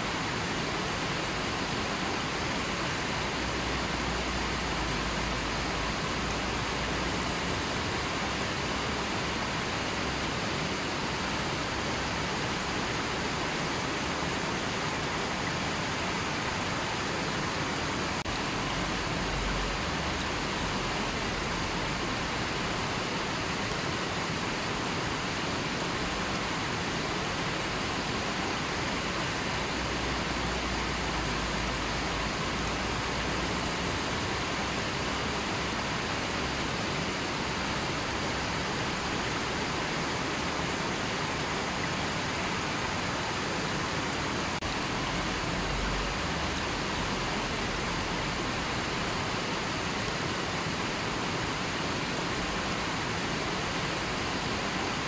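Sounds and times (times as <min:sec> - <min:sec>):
river rushing over stones: 0:00.0 - 0:55.0.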